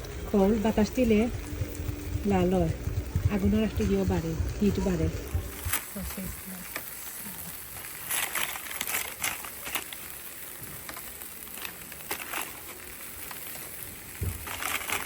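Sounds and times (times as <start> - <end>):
charcoal barbecue crackling: 0.0 - 15.0.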